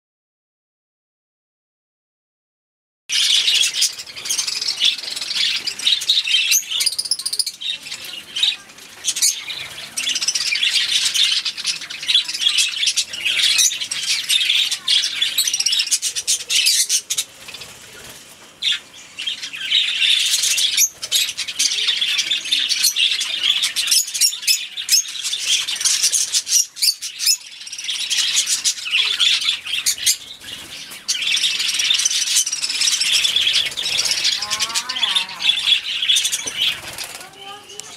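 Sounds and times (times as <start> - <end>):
budgerigars chattering: 3.1 - 37.9.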